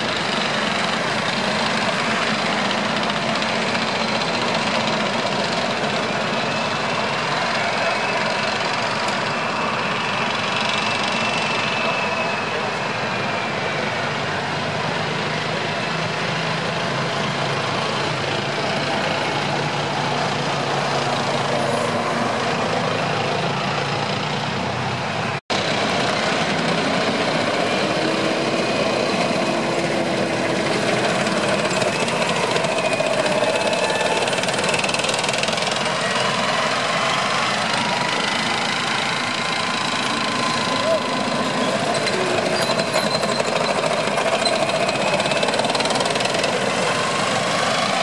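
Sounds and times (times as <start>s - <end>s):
tank tracks on road: 0.0s - 48.0s
turbine engines whining: 0.0s - 48.0s.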